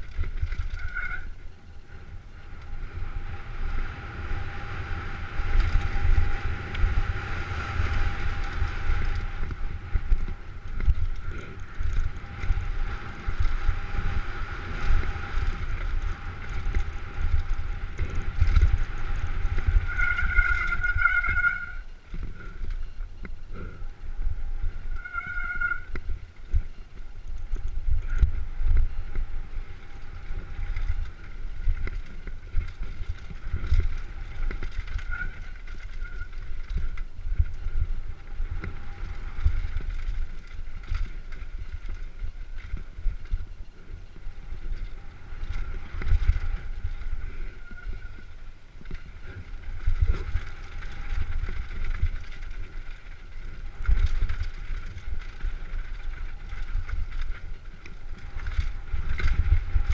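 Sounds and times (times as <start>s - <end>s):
bike knocking and rattling: 0.0s - 59.9s
wind rumble on microphone: 0.0s - 59.9s.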